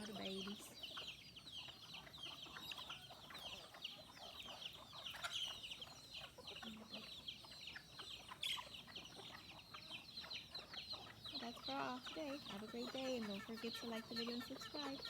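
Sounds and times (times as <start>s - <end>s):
chicken clucking: 0.0s - 15.0s
chicks peeping: 0.0s - 15.0s.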